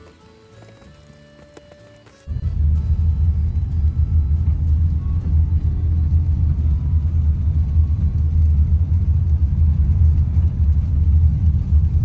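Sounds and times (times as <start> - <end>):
faint ticks: 0.0 - 11.8
low rumble: 2.3 - 12.0.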